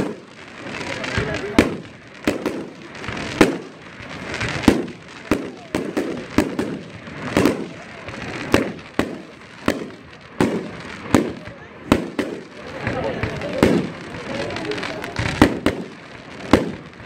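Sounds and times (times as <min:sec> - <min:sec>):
fireworks bursting with sharp bangs: 0:00.0 - 0:17.0
fireworks crackling and fizzing: 0:00.0 - 0:17.0.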